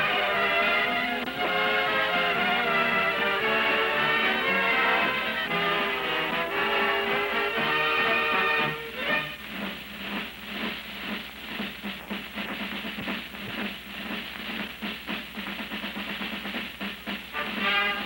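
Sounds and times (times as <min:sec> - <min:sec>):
rapid drum and percussion beats: 0:00.0 - 0:18.0.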